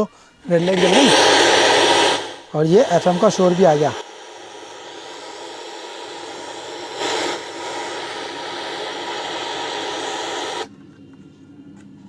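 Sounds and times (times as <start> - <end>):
radio static hissing from speaker: 0.0 - 10.7.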